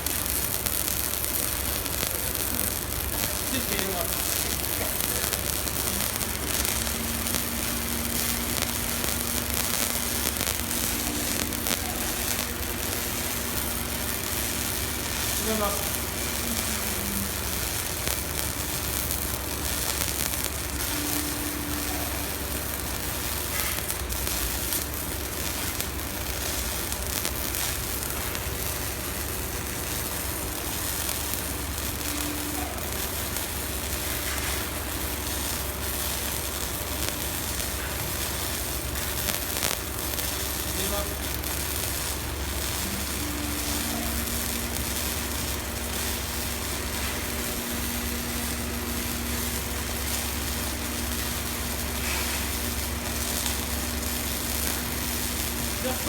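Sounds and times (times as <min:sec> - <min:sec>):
welding arc crackling and sizzling: 0:00.0 - 0:56.0.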